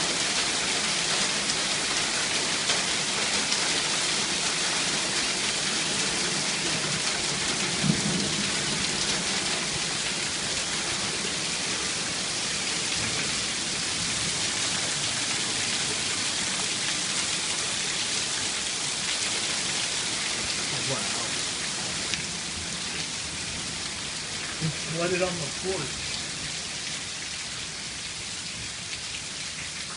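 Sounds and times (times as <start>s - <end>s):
hail and rain pelting: 0.0s - 27.2s.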